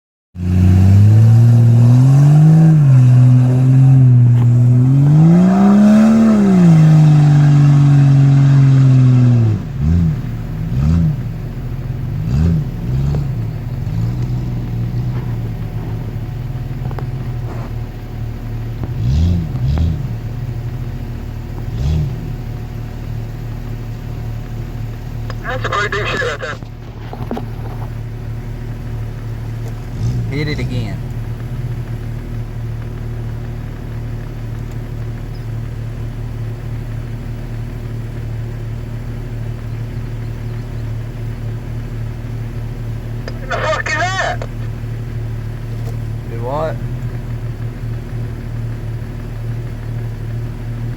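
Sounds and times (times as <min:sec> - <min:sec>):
off-road vehicle engine revving: 0:00.4 - 0:50.9.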